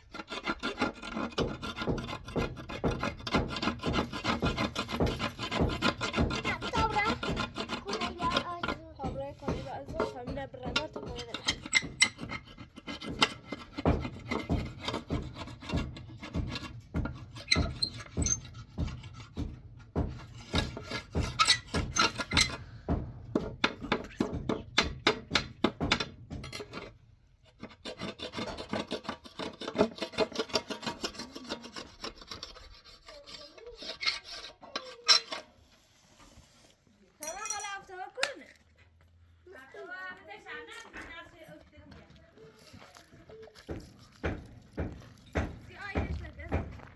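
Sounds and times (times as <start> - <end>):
hand tool rasping: 0.0 - 36.4, 42.5 - 46.9.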